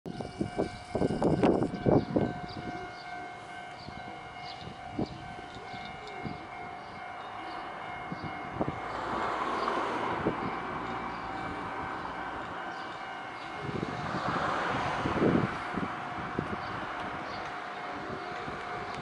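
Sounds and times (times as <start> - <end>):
train rumbling: 0.1 - 19.0.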